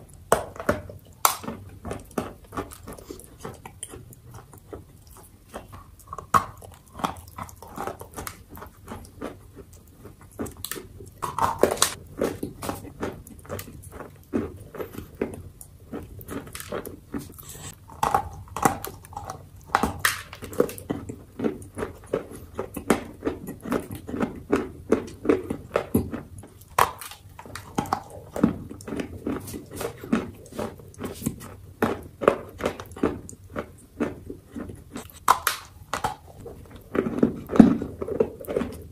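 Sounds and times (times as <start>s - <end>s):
clay being chewed crunching: 0.0s - 38.9s.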